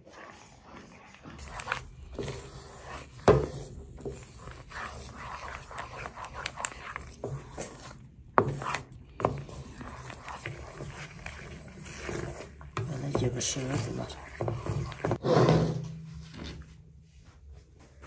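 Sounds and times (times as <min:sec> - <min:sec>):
spatula scraping a frying pan: 0:00.0 - 0:16.7.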